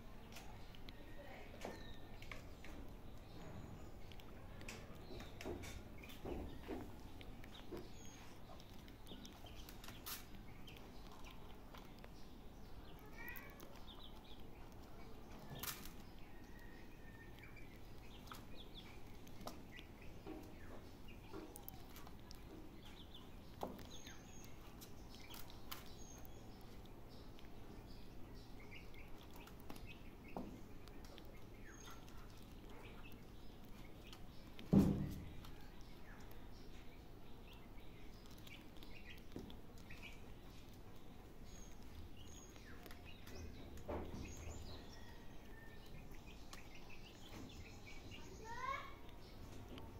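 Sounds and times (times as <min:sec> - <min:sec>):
faint outdoor ambience: 0:00.0 - 0:49.9
small clicks and rustles: 0:00.2 - 0:49.9
bird chirps: 0:01.6 - 0:40.8, 0:41.4 - 0:49.6.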